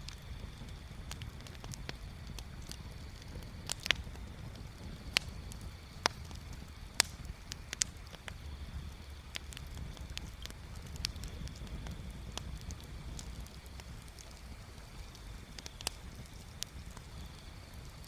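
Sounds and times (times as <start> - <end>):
bonfire crackling and popping: 0.0 - 18.0
low steady rumble: 0.0 - 18.0.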